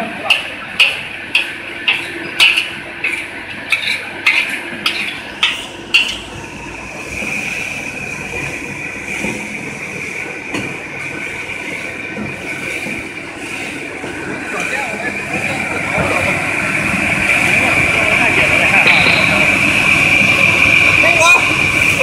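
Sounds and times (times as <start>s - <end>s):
machine noise with high whine: 0.0s - 22.0s.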